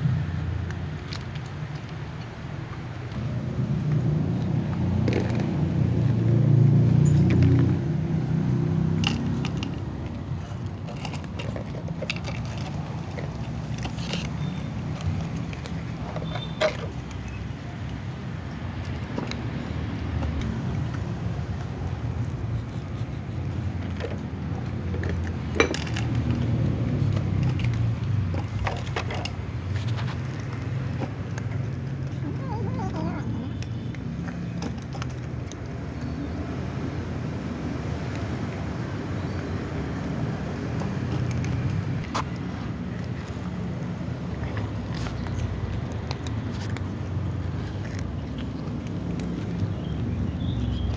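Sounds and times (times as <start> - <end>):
cats eating: 0.0 - 50.9.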